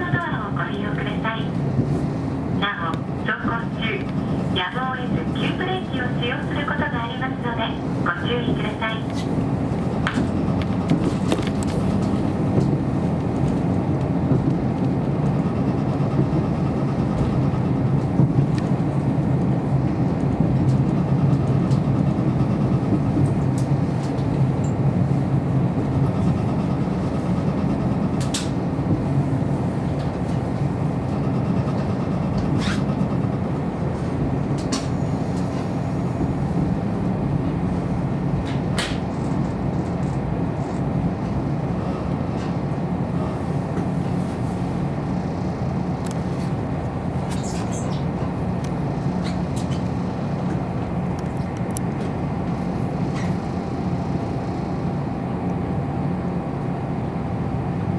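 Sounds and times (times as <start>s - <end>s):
train engine and wheels rumbling: 0.0s - 57.9s.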